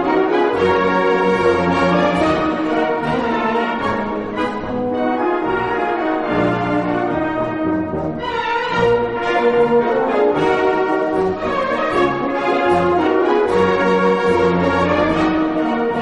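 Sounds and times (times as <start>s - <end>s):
orchestral waltz with brass: 0.0s - 16.0s.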